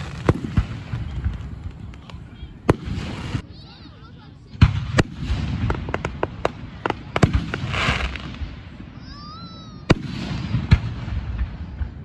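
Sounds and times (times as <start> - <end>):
fireworks popping and crackling: 0.0 - 3.8, 4.4 - 9.1, 9.8 - 12.0.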